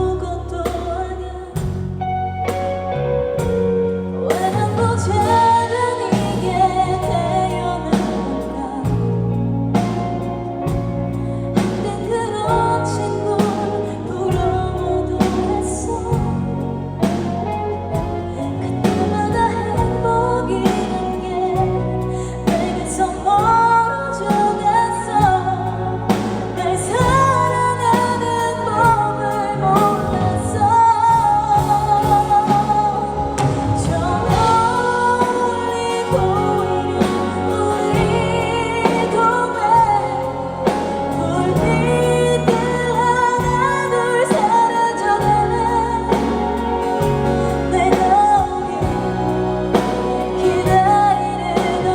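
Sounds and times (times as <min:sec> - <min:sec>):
live band with bass and drums: 0:00.0 - 0:51.9
woman singing a pop ballad: 0:00.0 - 0:51.9.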